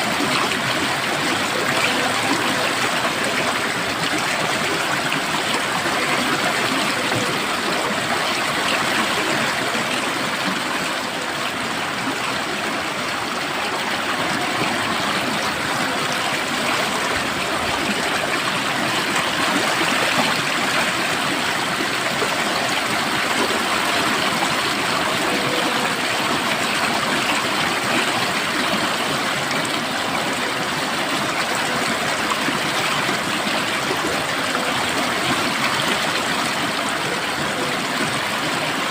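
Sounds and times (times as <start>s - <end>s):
water flowing over rocks: 0.0s - 38.9s.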